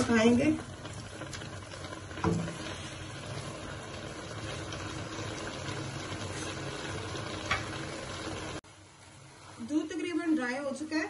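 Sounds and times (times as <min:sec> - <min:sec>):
milk bubbling in a wok: 0:00.0 - 0:11.0.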